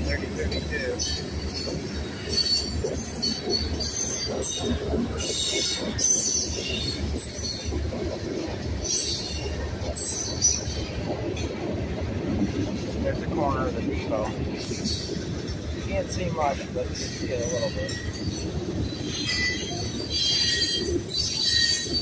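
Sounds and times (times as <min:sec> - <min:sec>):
train wheels screeching: 0:00.0 - 0:11.2, 0:12.4 - 0:22.0
freight train rumbling past: 0:00.0 - 0:22.0.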